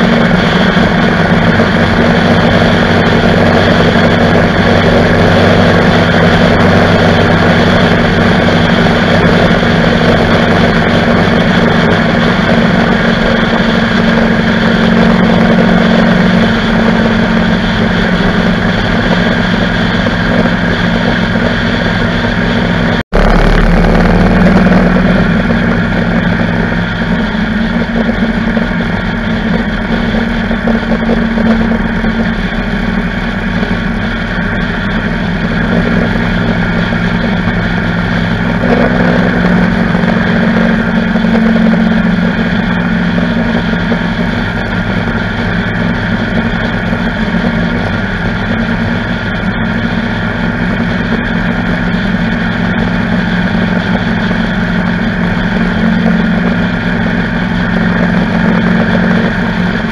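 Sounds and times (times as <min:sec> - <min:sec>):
motorcycle engine hum: 0:00.0 - 0:59.9
wind rushing over microphone: 0:00.0 - 0:59.9.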